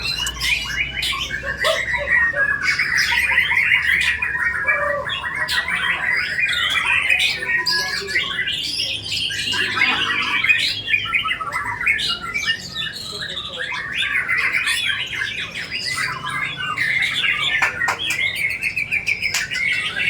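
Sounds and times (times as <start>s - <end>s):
songbird singing chirps and trills: 0.0s - 20.0s.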